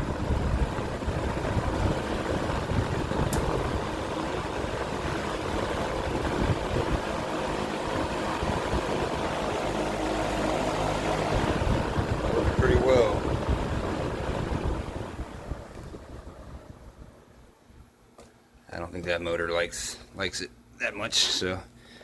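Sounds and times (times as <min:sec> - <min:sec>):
low motor hum: 0:00.0 - 0:18.0
box fan rushing air: 0:00.0 - 0:18.6.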